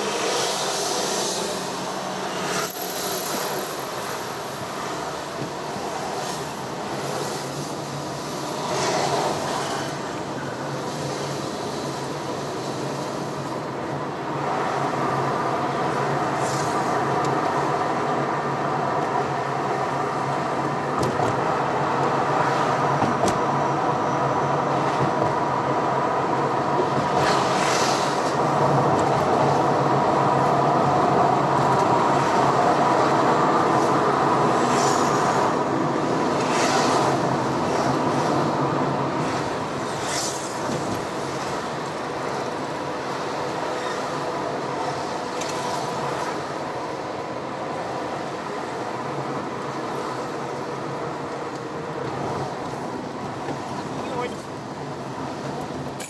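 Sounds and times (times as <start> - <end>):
car engine and tyre noise: 0.0 - 56.0
passing traffic whooshes: 0.0 - 56.0.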